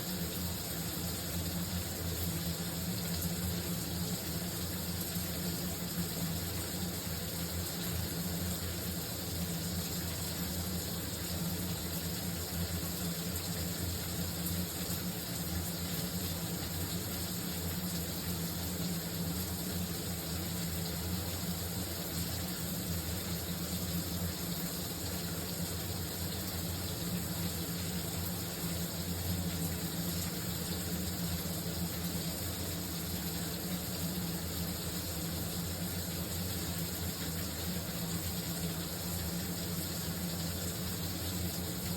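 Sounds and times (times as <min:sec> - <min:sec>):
shower running: 0:00.0 - 0:41.9.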